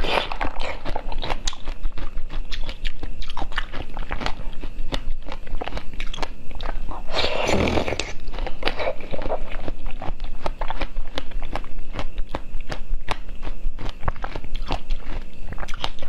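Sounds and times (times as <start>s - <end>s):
crunching and chewing: 0.0s - 16.0s.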